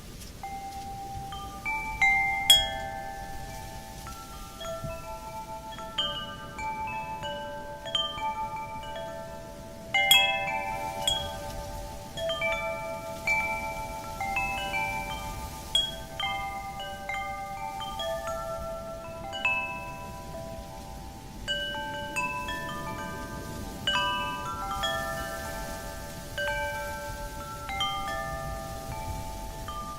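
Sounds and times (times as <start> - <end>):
faint wind hiss: 0.0 - 29.9
wind chimes ringing: 0.0 - 29.9.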